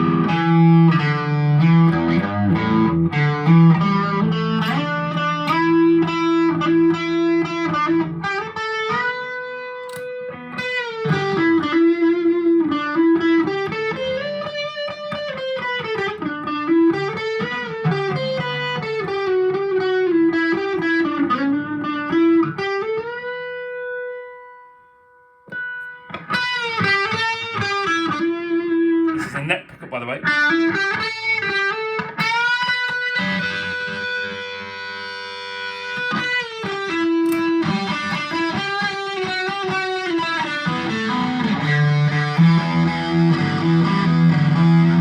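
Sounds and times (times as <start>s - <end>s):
electric guitar lead line: 0.0s - 45.0s.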